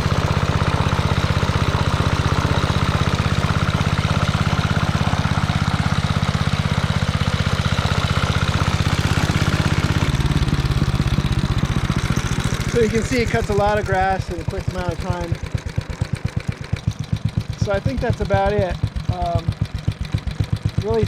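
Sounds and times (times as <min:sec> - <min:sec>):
reel mower engine running: 0:00.0 - 0:21.0.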